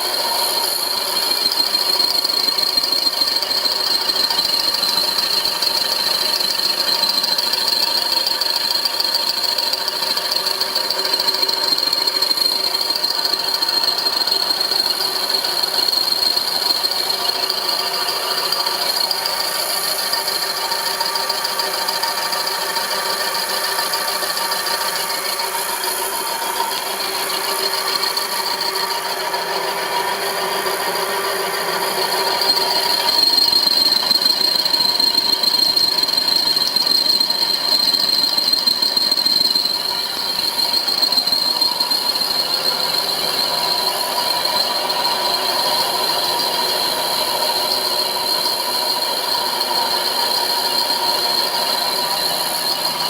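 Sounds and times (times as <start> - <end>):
milling machine whining and rattling: 0.0 - 53.0.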